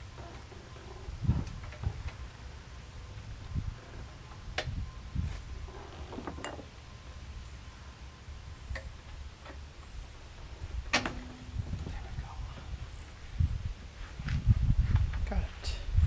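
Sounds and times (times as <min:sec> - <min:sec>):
low uneven rumble: 0:00.0 - 0:16.0.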